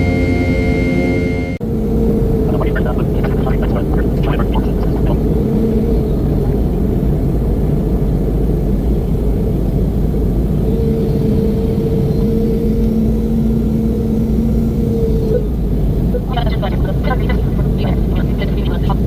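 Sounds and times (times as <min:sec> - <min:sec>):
airliner cabin rumble: 0:00.0 - 0:19.0
faint steady hum: 0:00.0 - 0:19.0.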